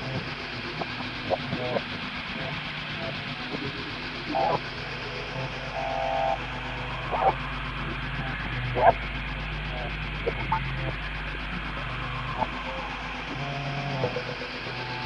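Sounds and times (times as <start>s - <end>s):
low hum: 0.0s - 15.0s
warped voice-like cries: 0.0s - 15.0s.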